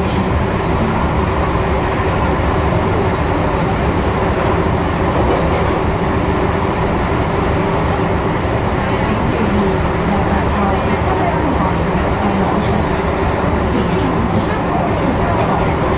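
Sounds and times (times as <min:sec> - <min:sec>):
train wheels rumbling on track: 0:00.0 - 0:15.9.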